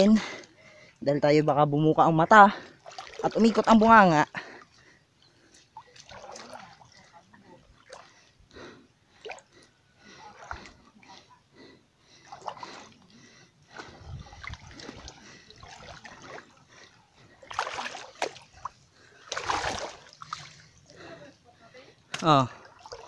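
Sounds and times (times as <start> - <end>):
legs wading through water: 2.2 - 23.0.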